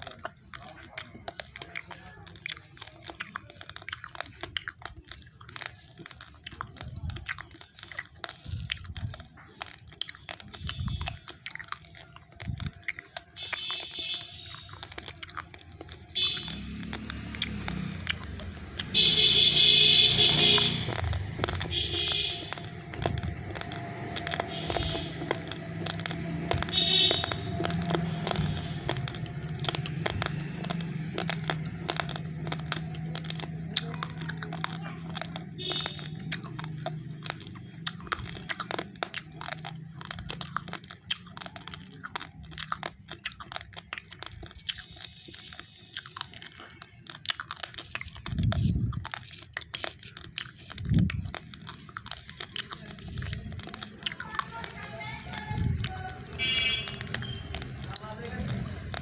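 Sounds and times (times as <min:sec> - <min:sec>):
crunching raw rice grains: 0:00.0 - 0:59.0.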